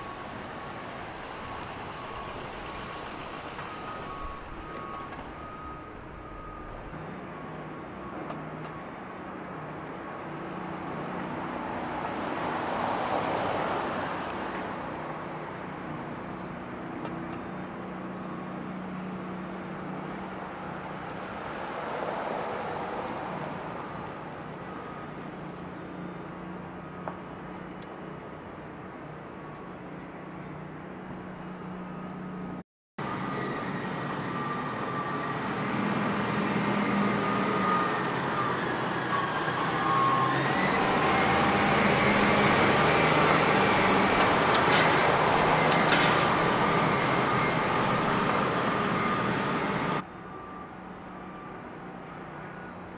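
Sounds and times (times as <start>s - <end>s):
steady engine hum: 0.0s - 52.9s
vehicles passing by: 0.0s - 52.9s.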